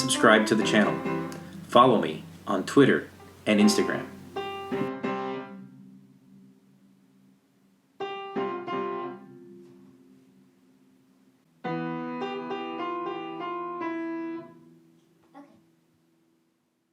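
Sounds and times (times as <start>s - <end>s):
piano notes: 0.0s - 7.3s, 8.0s - 15.0s.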